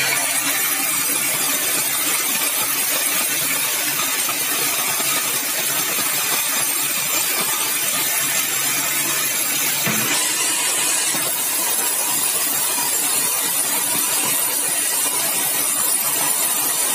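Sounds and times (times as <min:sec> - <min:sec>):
sawmill saw cutting timber: 0:00.0 - 0:16.9.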